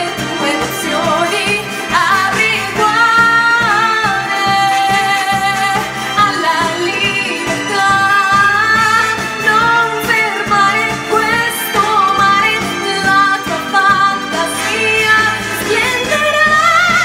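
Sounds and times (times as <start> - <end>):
instrumental music with steady beat: 0.0 - 17.0
woman singing: 0.0 - 17.0.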